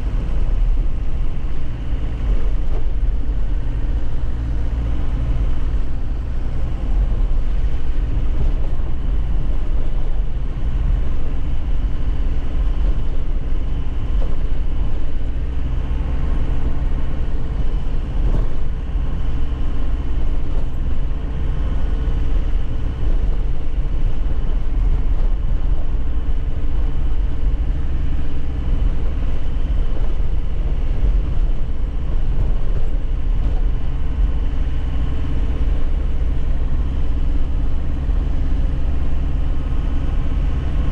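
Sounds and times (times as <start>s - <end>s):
road and tyre noise: 0.0s - 40.9s
truck engine running: 0.0s - 40.9s.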